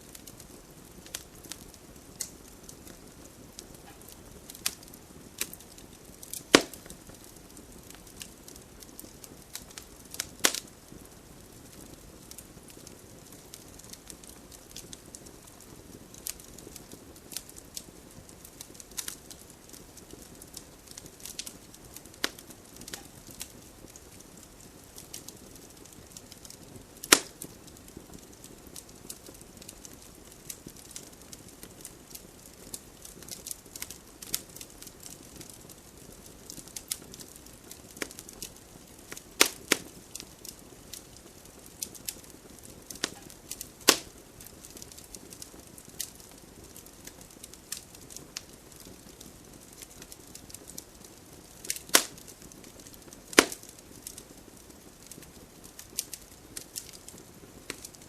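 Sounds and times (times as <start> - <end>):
wood campfire crackling: 0.0 - 58.0.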